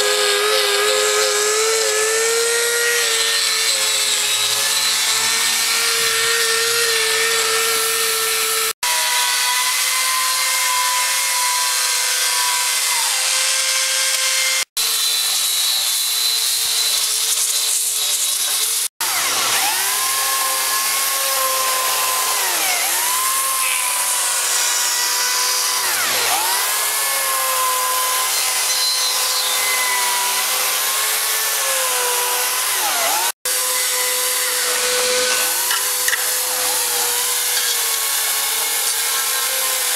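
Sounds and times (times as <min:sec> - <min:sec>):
power carving cutter whining: 0:00.0 - 0:39.9.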